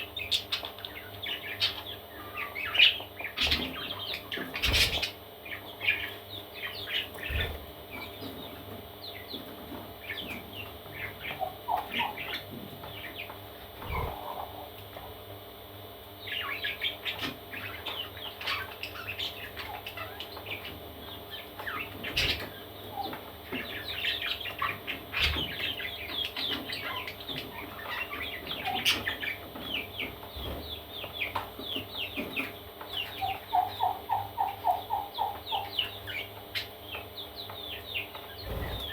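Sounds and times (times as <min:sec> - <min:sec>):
parrot chicks chirping: 0:00.0 - 0:38.9.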